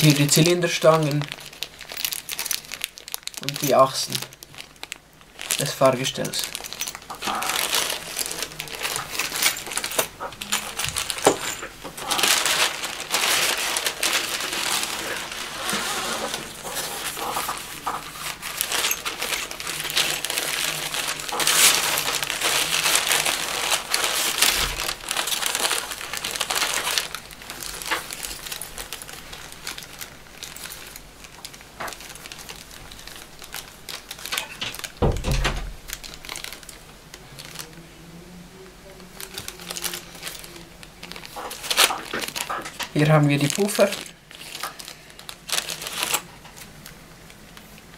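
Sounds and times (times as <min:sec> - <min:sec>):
packing paper rustling and crinkling: 0:00.0 - 0:37.9, 0:38.6 - 0:47.9.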